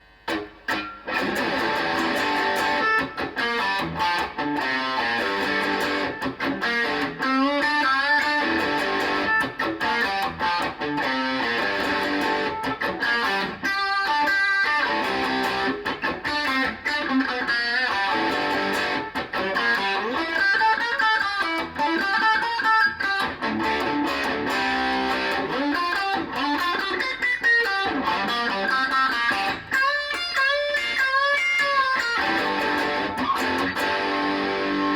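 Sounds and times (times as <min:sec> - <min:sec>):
electric guitar through amplifier: 0:00.0 - 0:34.9.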